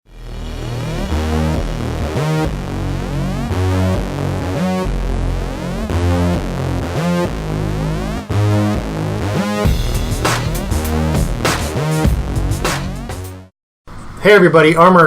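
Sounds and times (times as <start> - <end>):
electronic synthesizer music: 0.1 - 13.5.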